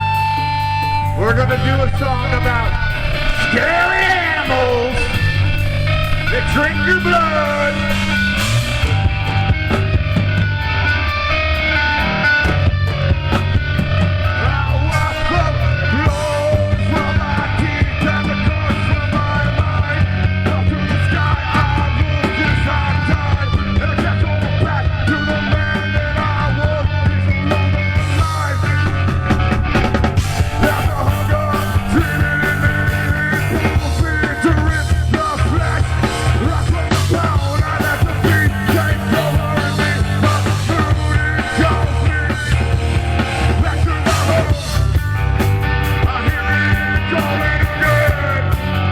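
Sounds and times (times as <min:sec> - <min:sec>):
bass guitar: 0:00.0 - 0:48.9
drums: 0:00.0 - 0:48.9
electric guitar: 0:00.0 - 0:48.9.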